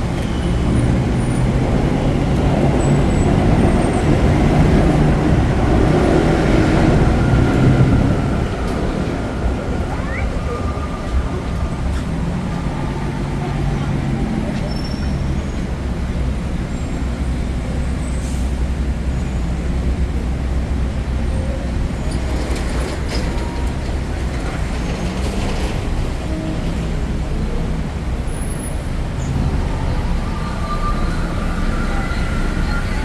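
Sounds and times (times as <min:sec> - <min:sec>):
hiss of wet roads and rain: 0:00.0 - 0:33.0
traffic rumble: 0:00.0 - 0:33.0.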